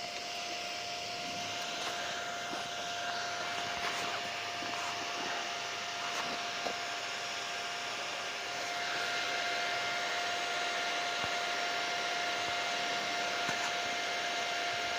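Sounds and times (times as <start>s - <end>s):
welder high whine: 0.0s - 14.9s.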